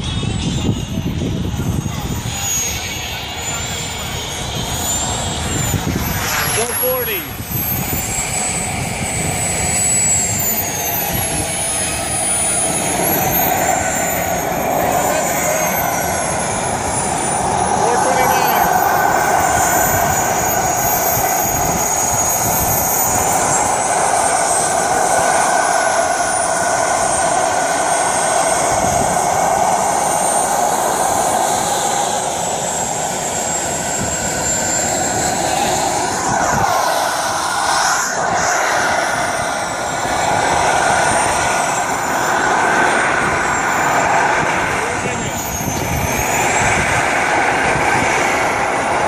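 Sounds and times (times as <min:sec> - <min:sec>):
model jet rushing with high whine: 0:00.0 - 0:49.0.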